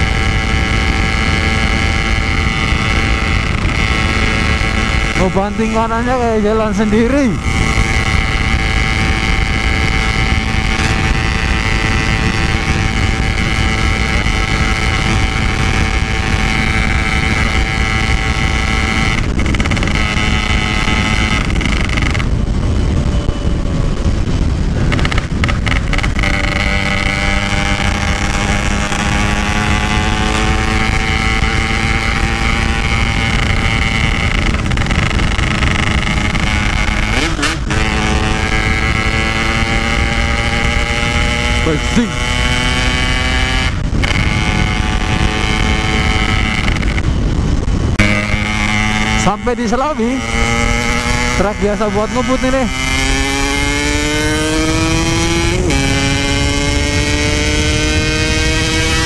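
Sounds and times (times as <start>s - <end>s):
two-stroke motorcycle engine: 0.0s - 59.0s
wind buffeting microphone: 0.0s - 59.0s.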